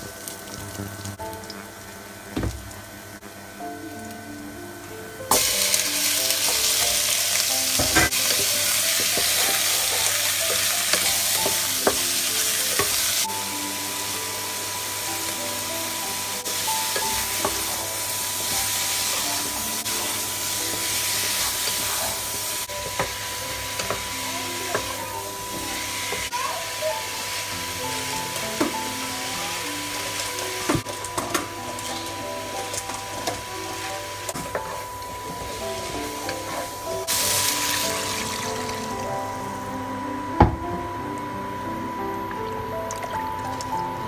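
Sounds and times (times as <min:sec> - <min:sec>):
chicken sizzling in hot oil: 0:00.0 - 0:03.2, 0:05.3 - 0:39.8.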